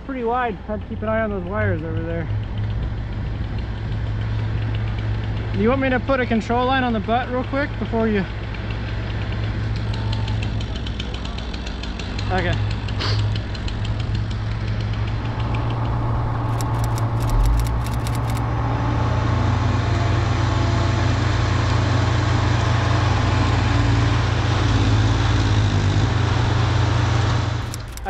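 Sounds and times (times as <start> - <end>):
truck engine running: 0.2 - 28.0.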